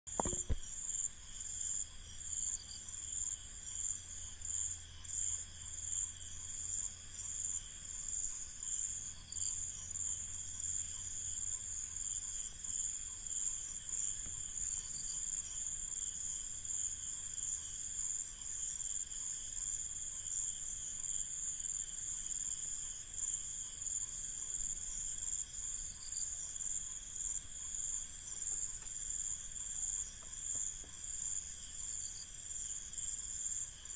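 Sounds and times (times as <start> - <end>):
crickets chirping: 0.1 - 33.9.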